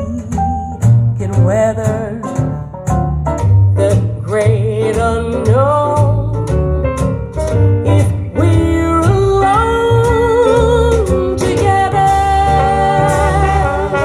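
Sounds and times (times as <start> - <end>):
woman singing: 0.0 - 2.5, 3.8 - 7.2, 7.8 - 14.0
double bass line: 0.0 - 14.0.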